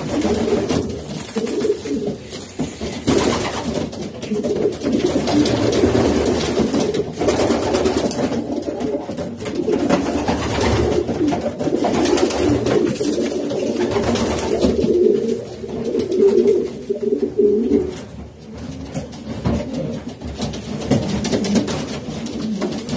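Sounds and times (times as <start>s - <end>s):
pigeons cooing: 0.0s - 20.2s.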